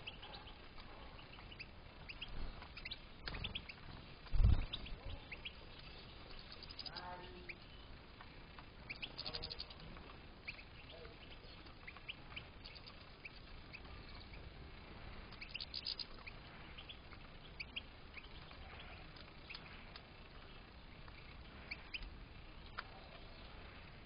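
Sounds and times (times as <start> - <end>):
goldfinches chirping and twittering: 0.0 - 24.0.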